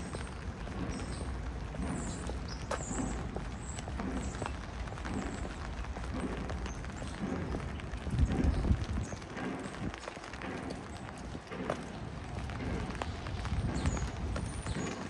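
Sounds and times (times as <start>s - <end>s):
footsteps on wet sidewalk: 0.0s - 15.0s.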